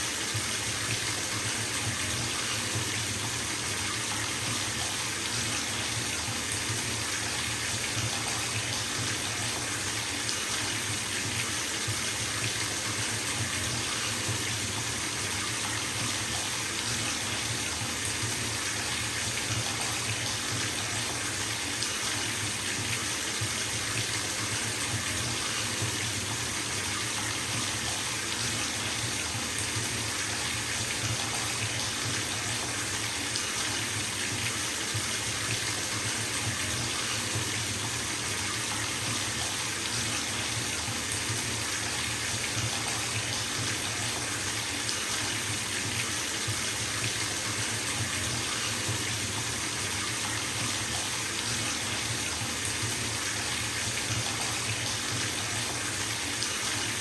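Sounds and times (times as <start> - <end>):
tap water filling bathtub: 0.0 - 57.0.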